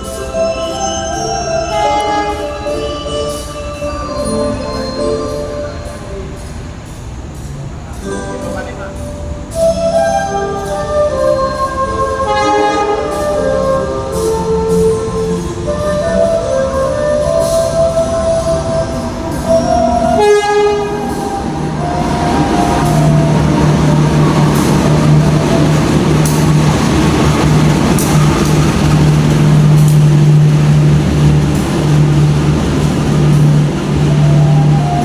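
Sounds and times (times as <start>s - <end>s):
locomotive engine humming: 0.0s - 35.0s
train rumble: 0.0s - 35.0s.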